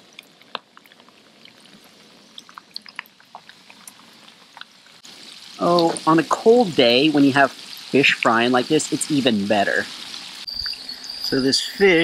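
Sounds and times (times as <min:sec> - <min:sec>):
oil crackling and popping: 0:00.0 - 0:10.8
fish frying in hot oil: 0:00.0 - 0:11.5.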